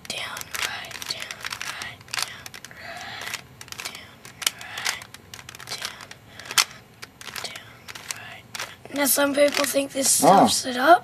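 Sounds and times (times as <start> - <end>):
puzzle cube clicking and rattling: 0.0 - 10.4.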